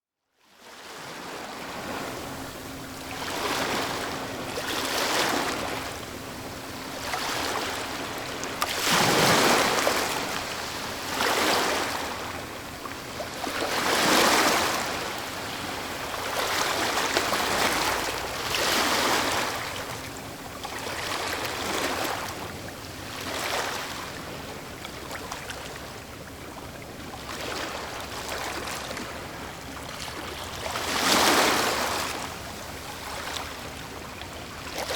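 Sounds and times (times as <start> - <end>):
waves breaking on shore: 0.6 - 34.9.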